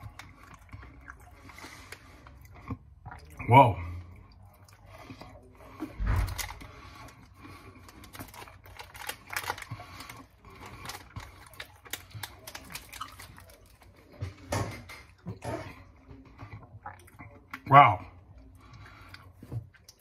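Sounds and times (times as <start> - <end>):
person chewing candy bar: 0.0 - 14.5, 15.1 - 20.0.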